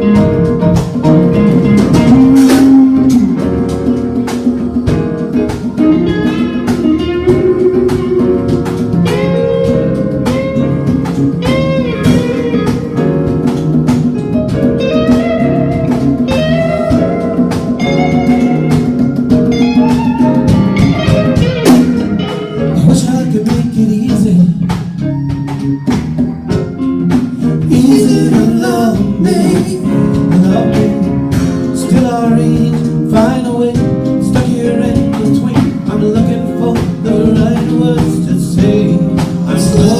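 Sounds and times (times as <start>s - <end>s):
pitch-bending melody line: 0.0s - 32.5s
band playing a song: 0.0s - 39.9s
guitar: 0.0s - 39.9s
struck percussion beat: 0.0s - 39.9s.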